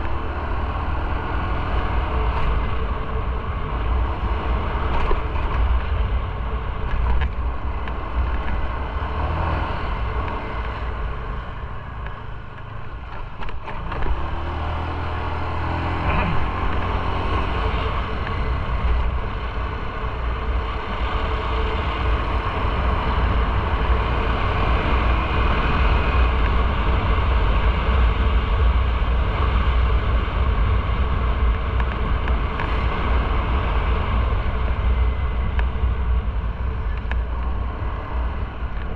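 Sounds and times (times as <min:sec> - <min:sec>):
motorcycle engine: 0:00.0 - 0:38.9
wind rumble on microphone: 0:00.0 - 0:38.9.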